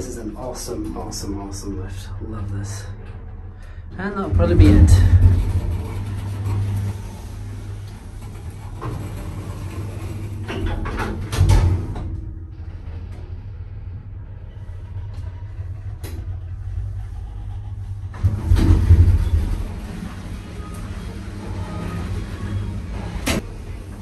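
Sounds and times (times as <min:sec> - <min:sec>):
lift motor hum: 0:00.0 - 0:24.0
lift doors clunking: 0:04.4 - 0:24.0.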